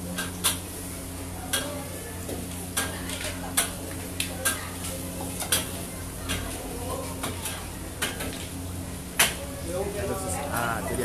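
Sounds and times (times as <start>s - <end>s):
frying sizzle: 0.0s - 10.8s.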